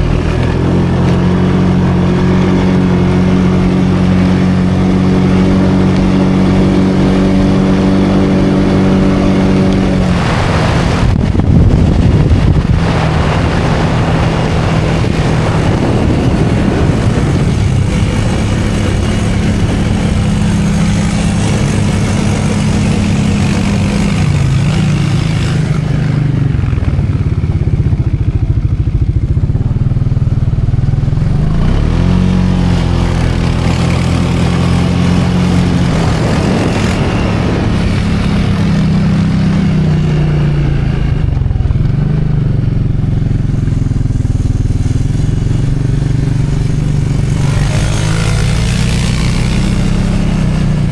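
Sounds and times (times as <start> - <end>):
small vehicle engine revving: 0.0 - 50.9.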